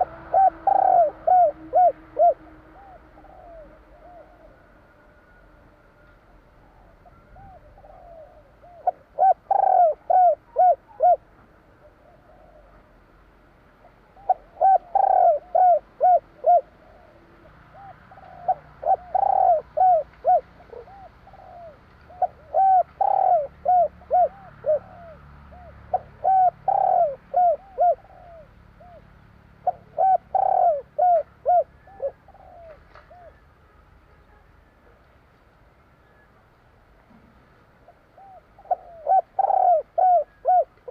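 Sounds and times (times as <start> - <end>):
dove cooing: 0.0 - 5.4, 6.6 - 13.0, 13.8 - 33.5, 37.9 - 40.9.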